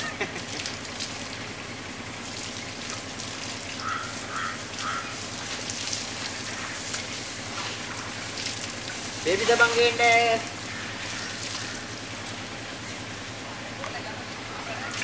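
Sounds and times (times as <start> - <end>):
hose water splashing on concrete: 0.0 - 15.0
water running into bucket: 0.0 - 15.0.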